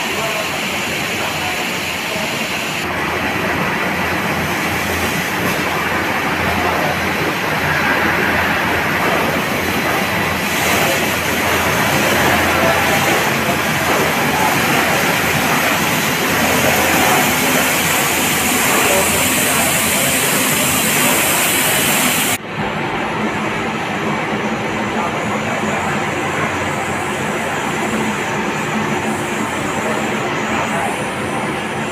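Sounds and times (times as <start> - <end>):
production line machinery running: 0.0 - 31.9.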